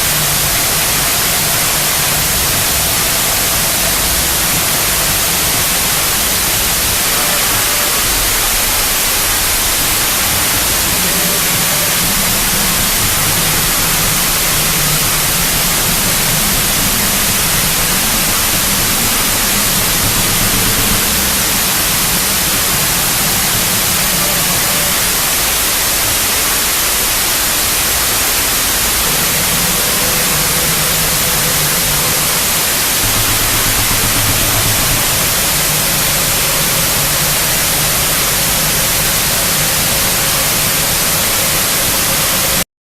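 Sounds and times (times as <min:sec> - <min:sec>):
hissing static noise: 0:00.0 - 0:42.6
low droning tones: 0:00.0 - 0:42.6.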